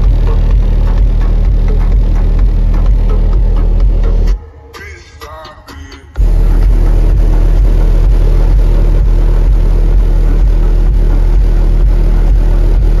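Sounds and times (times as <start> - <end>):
bass-heavy music on subwoofers: 0.0 - 13.0.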